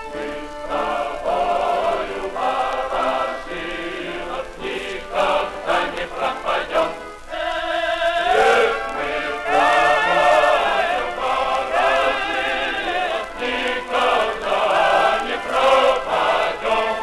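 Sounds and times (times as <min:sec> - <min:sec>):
choir singing a patriotic song: 0:00.0 - 0:17.0.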